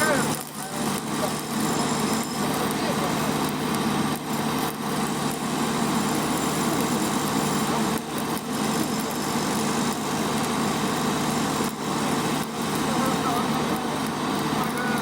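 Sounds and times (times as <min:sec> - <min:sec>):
machine running: 0:00.0 - 0:15.0
welding arc hissing: 0:00.0 - 0:15.0.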